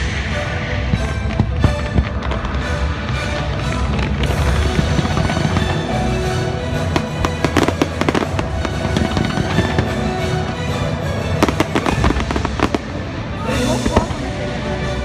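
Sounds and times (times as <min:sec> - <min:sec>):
fireworks bursting and crackling: 0:00.0 - 0:15.0
show music: 0:00.0 - 0:15.0.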